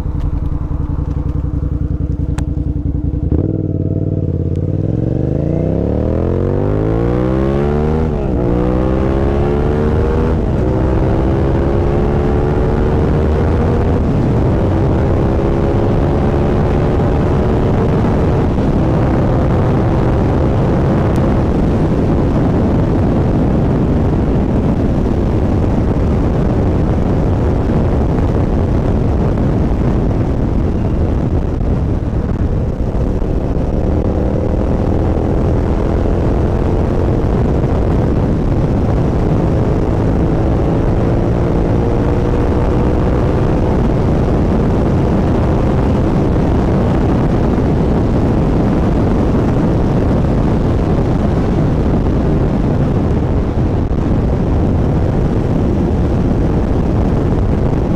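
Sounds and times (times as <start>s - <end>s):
motorcycle engine running: 0.0s - 57.9s
road noise: 0.0s - 57.9s
wind noise: 0.0s - 57.9s.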